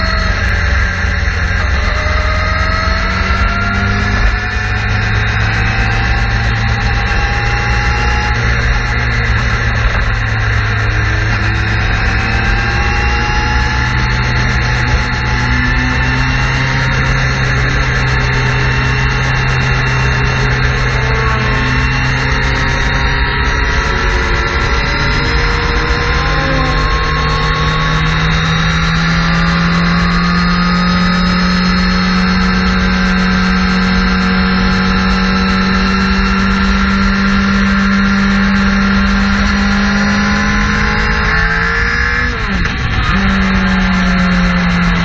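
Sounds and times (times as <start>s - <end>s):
motorcycle engine at speed: 0.0s - 45.0s.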